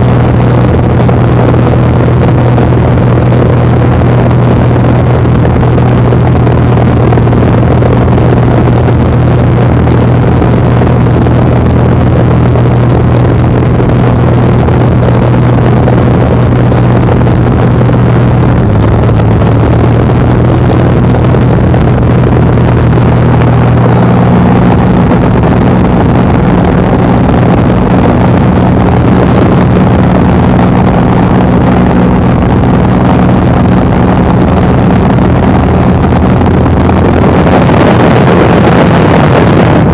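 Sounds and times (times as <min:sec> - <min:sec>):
propeller plane engine: 0:00.0 - 0:39.9
wind noise: 0:00.0 - 0:39.9.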